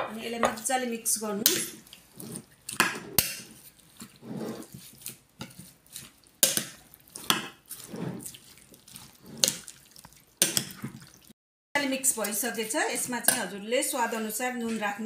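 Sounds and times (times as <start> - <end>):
wet stirring in a bowl: 1.4 - 11.4, 12.1 - 15.0.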